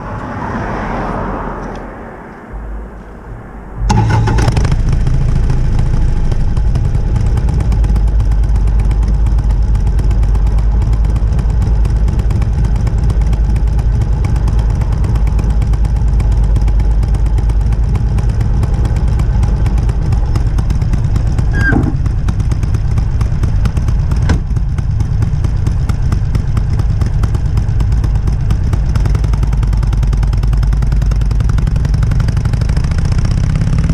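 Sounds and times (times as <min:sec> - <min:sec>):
motorcycle engine starting and running: 0:02.5 - 0:33.9.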